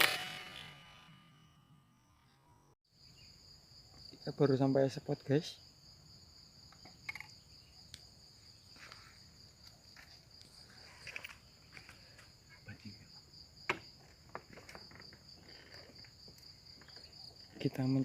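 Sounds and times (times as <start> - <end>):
crickets chirping: 1.2 - 18.0.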